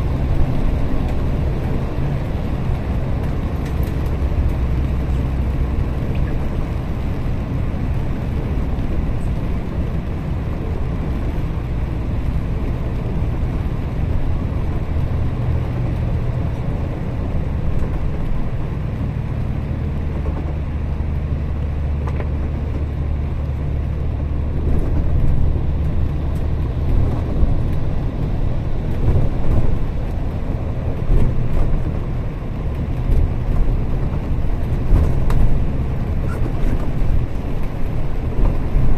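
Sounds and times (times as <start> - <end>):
bus bumps: 0.0 - 38.9
bus engine drone: 0.0 - 38.9
tyre noise on wet road: 0.0 - 38.9.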